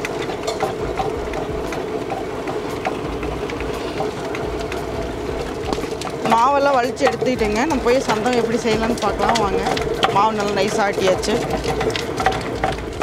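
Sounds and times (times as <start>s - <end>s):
wet grinder droning: 0.0s - 13.0s.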